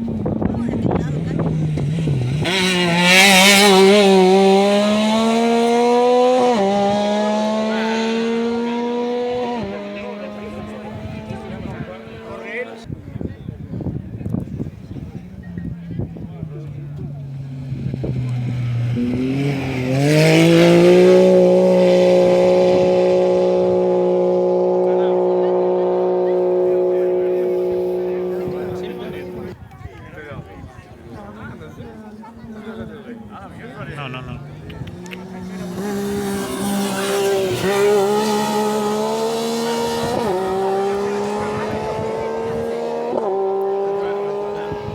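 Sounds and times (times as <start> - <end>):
rally car engine accelerating: 0.0 - 13.0, 13.8 - 29.6, 31.1 - 44.9.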